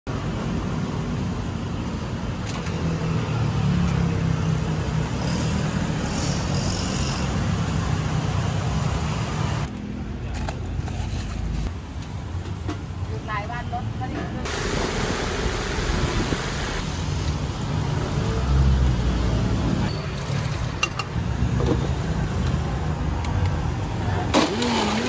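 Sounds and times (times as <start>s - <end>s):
road traffic rumble: 0.1s - 25.0s.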